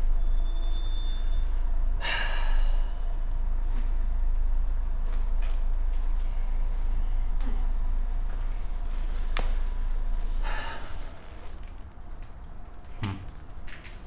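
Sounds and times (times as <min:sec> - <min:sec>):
steady low rumble: 0:01.4 - 0:14.0.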